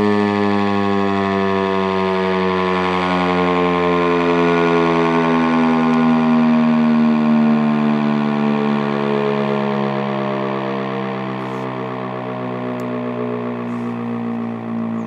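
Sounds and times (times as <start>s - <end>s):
civil defense siren wailing: 0.0s - 15.0s.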